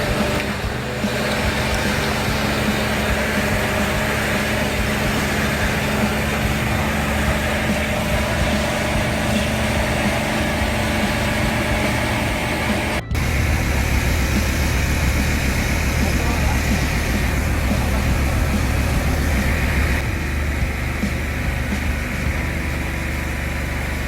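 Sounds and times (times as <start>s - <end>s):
engine and pump running: 0.0s - 24.0s.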